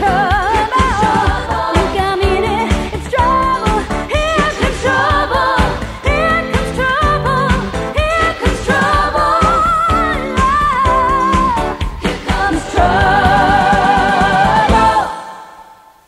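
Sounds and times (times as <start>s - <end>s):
steady beat: 0.0s - 15.2s
woman singing pop song: 0.0s - 15.7s.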